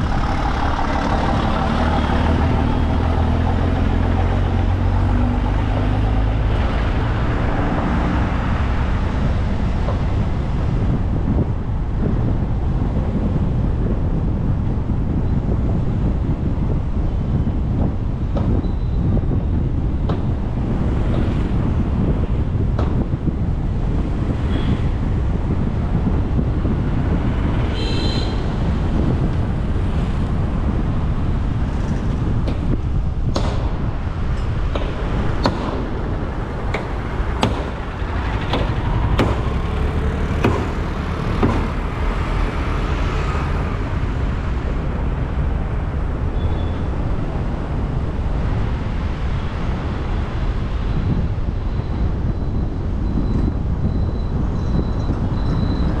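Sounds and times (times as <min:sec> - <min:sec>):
vehicle road noise: 0:00.0 - 0:56.0
wind on microphone: 0:00.0 - 0:56.0.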